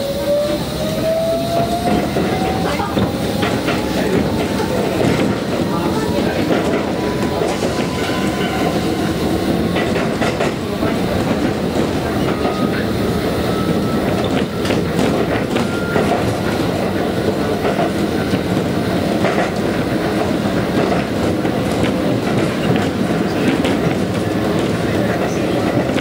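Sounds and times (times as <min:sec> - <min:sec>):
train rumble from inside: 0:00.0 - 0:26.0
wheels clacking over rail joints: 0:01.5 - 0:26.0.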